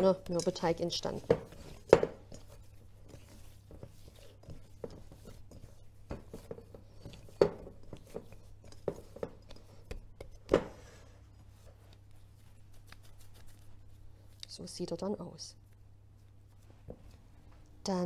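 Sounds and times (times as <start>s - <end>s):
dough kneaded in glass bowl: 0.0s - 14.6s.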